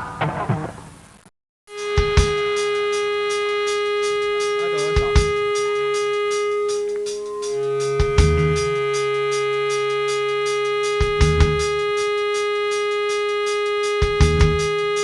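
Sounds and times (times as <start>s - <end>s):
fast ticking beat: 1.7s - 15.0s
long held note: 1.7s - 15.0s.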